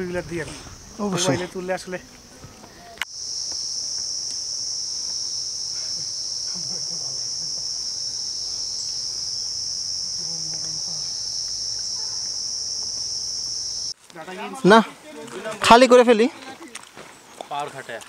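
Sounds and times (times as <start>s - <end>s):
insect chorus buzzing: 0.0s - 15.2s.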